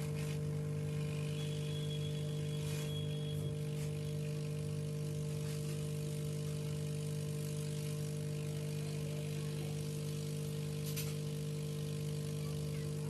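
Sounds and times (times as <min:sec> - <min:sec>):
hot-air gun humming: 0:00.0 - 0:13.0.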